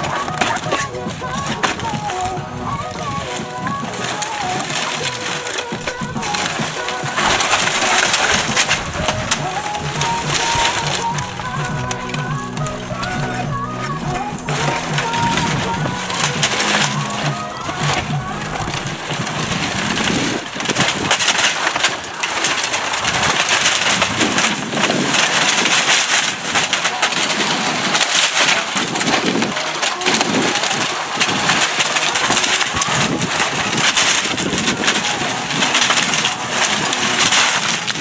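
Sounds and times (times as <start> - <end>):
falling debris: 0.0 - 38.0
roof shingles being ripped up: 0.0 - 38.0
splintering wood: 0.0 - 38.0.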